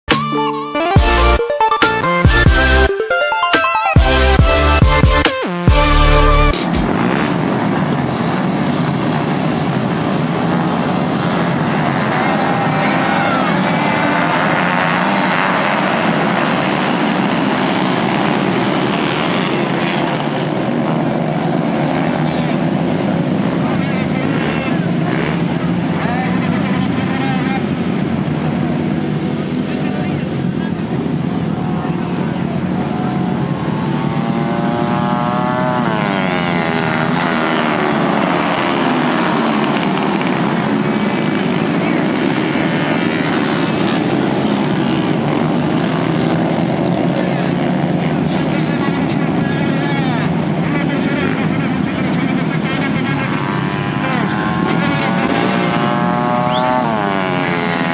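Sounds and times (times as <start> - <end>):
motorcycle engines at high revs: 4.0 - 57.9.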